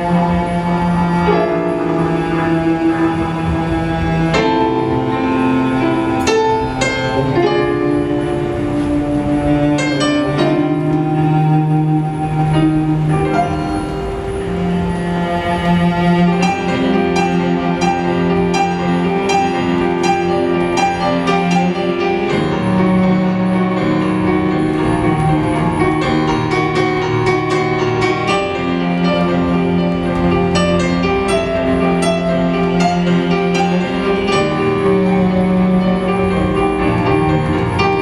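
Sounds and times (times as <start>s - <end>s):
slow instrumental music: 0.0s - 38.0s.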